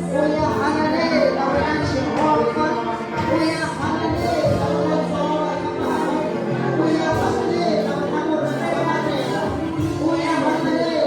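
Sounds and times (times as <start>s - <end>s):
church worship music: 0.0s - 11.0s
held bass notes: 0.0s - 11.0s.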